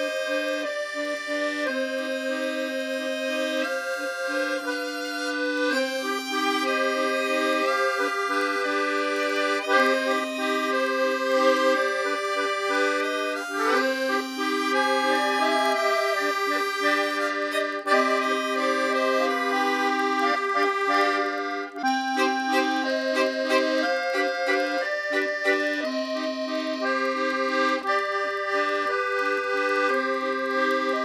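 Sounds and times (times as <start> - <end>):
instrumental music of held chords: 0.0 - 31.0.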